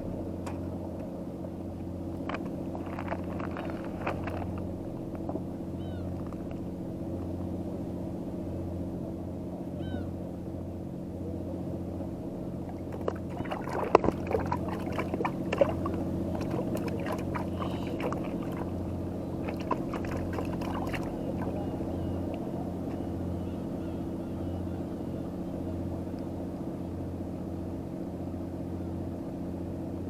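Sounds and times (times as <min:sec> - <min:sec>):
boat engine idling: 0:00.0 - 0:30.0.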